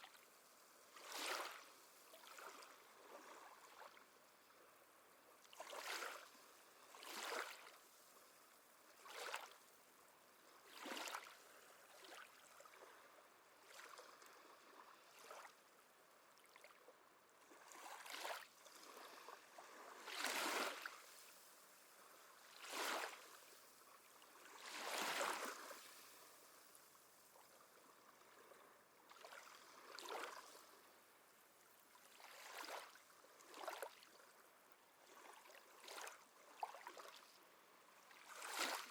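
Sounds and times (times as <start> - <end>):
small waves lapping: 0.0 - 4.7, 5.4 - 38.9.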